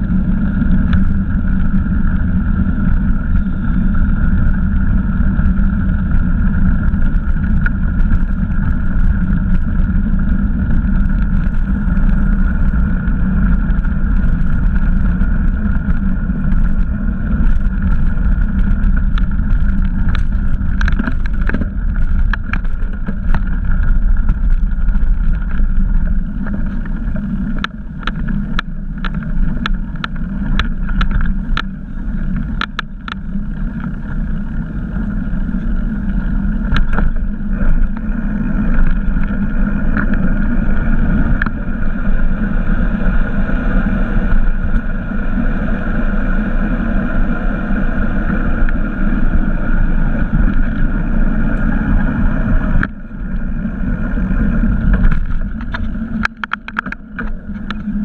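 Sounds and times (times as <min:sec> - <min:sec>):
bike clicks and rattles: 0:00.0 - 0:58.0
tyres rumbling on trail: 0:00.0 - 0:58.0
wind on microphone: 0:00.0 - 0:58.0.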